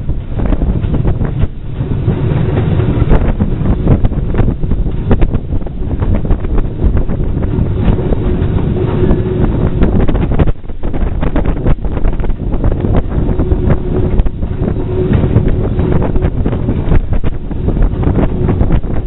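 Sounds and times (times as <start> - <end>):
freight train rumble: 0.0 - 19.0
wheels knocking on track: 0.0 - 19.0
wind noise on microphone: 0.0 - 19.0.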